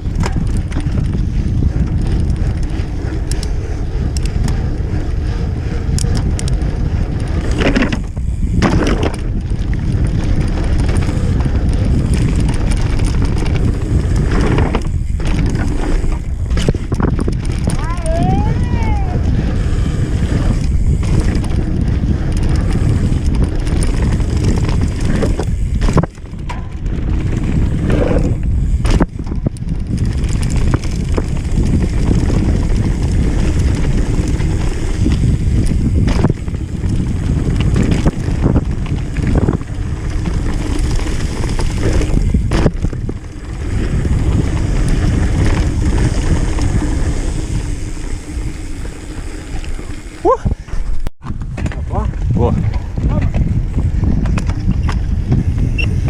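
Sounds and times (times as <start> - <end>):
bike knocking and rattling: 0.0 - 56.0
tyre rumble: 0.0 - 56.0
wind rushing over microphone: 0.0 - 56.0.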